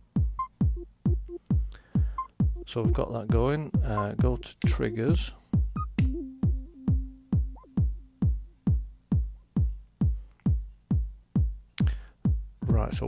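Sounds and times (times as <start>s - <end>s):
electronic kick drum: 0.0s - 13.0s.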